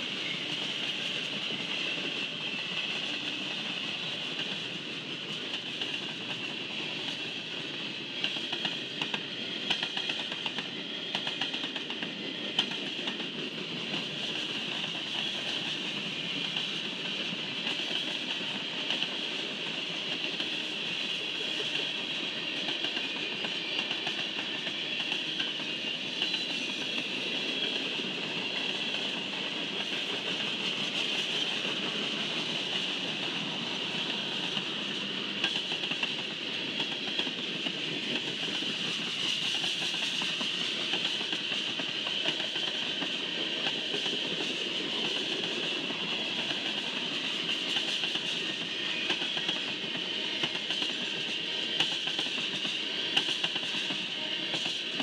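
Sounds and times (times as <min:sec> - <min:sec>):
rumble of train wheels: 0:00.0 - 0:55.0.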